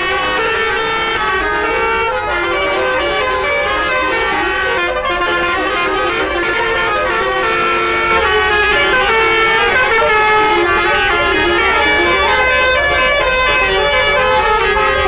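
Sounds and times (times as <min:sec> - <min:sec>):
bus horn playing a melody: 0:00.0 - 0:15.0.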